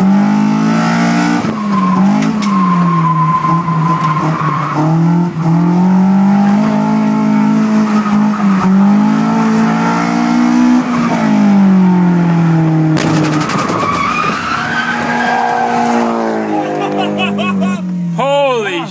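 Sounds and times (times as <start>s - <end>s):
car engine revving: 0.0s - 18.2s.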